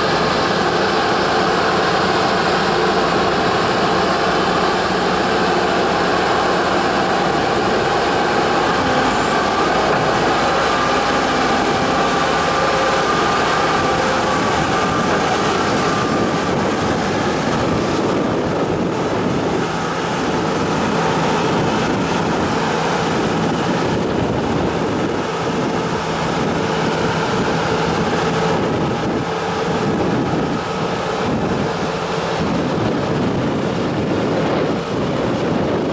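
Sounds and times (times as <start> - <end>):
diesel engine running under load: 0.0 - 35.9.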